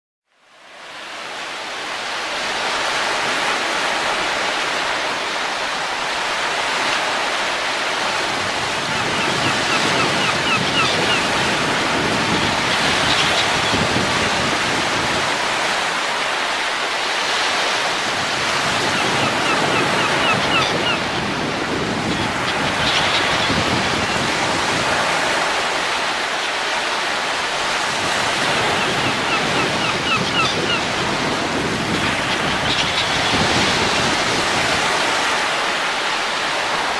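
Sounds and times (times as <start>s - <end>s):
wind gusting: 2.6s - 36.9s.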